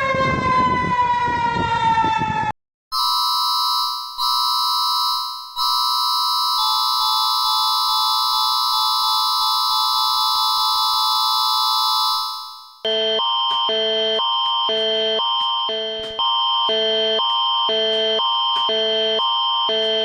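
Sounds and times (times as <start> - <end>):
emergency alert tone: 0.0 - 20.0.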